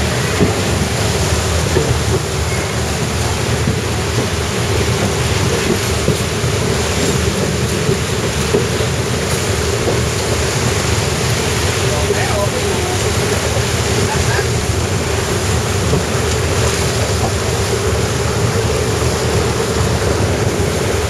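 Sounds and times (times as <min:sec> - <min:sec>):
churning water rushing: 0:00.0 - 0:21.0
train low rumble: 0:00.0 - 0:21.0.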